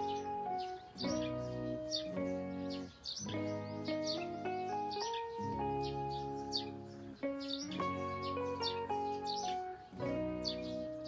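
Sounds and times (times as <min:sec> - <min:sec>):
sustained chords music: 0:00.0 - 0:11.0.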